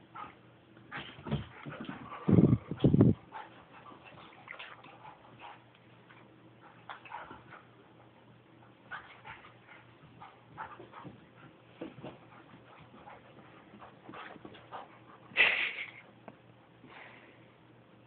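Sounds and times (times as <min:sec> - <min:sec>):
dogs play-fighting noises: 0:00.0 - 0:15.4.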